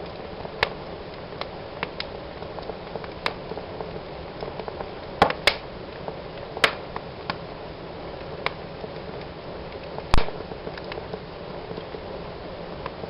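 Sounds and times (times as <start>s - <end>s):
fire crackling and popping: 0.0s - 13.0s
fire hissing: 0.0s - 13.0s.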